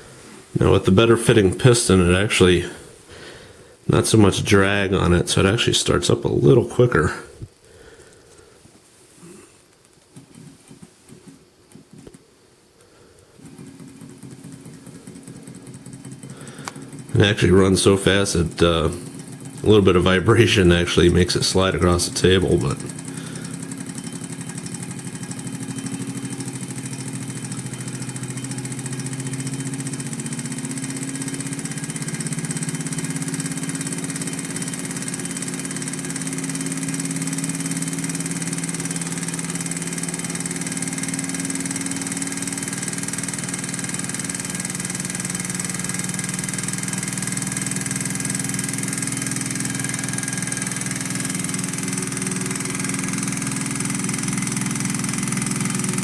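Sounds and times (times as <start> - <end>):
stirling engine mechanical whir: 0.0 - 7.5, 13.2 - 56.0.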